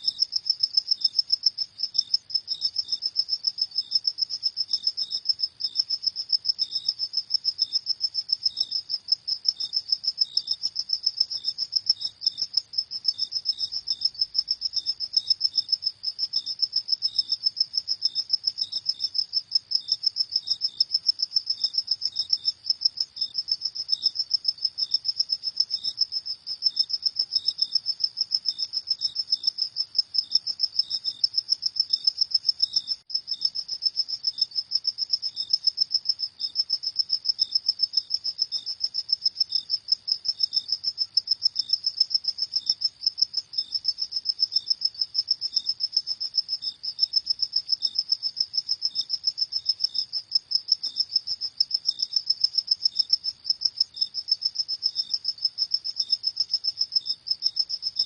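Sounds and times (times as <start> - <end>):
crickets chirping high-pitched: 0.0 - 58.0.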